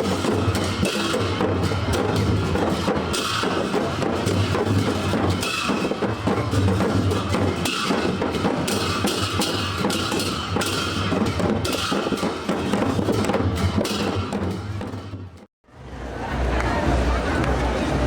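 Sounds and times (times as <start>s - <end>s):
group of drums playing: 0.0s - 15.5s.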